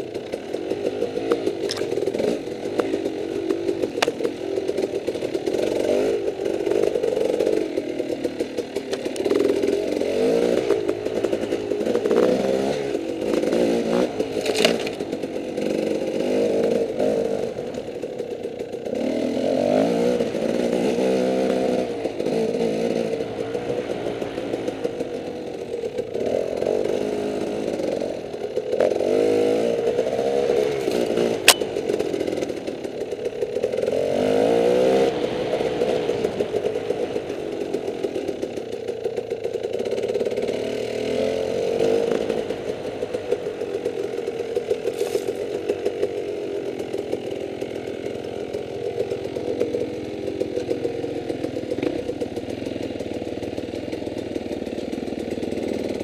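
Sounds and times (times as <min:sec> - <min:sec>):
dirt bike engine revving: 0:00.0 - 0:38.8, 0:39.7 - 0:52.2.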